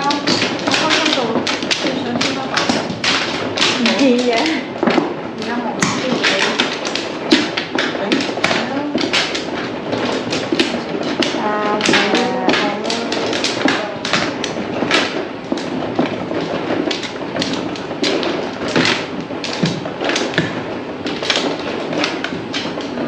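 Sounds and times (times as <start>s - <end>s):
mahjong tiles clacking: 0.0s - 23.0s.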